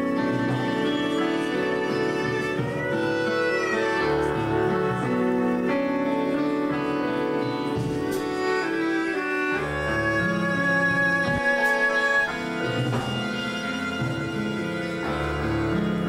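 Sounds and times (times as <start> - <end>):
bowed strings sustained notes: 0.0 - 16.0
low held notes: 0.0 - 16.0.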